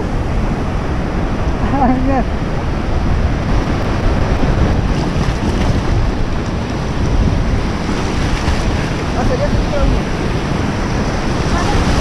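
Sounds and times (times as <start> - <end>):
ocean surf breaking: 0.0 - 12.0
wind rumble on microphone: 0.0 - 12.0.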